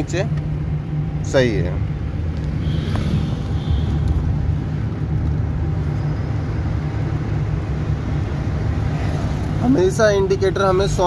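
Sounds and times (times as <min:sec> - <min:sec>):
car engine hum: 0:00.0 - 0:11.0
road noise inside car: 0:00.0 - 0:11.0.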